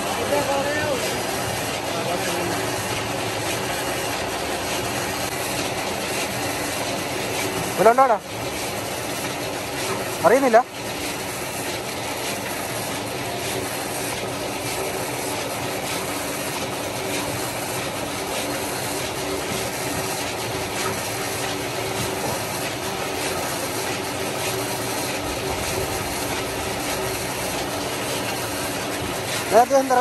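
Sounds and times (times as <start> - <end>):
falling water rushing: 0.0 - 30.0.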